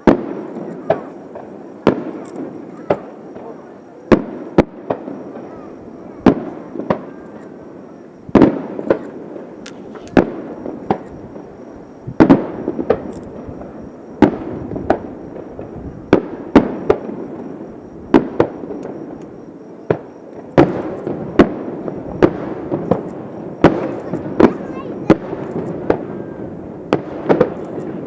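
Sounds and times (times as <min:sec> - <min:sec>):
fireworks bursting with echoing bangs: 0:00.0 - 0:28.0.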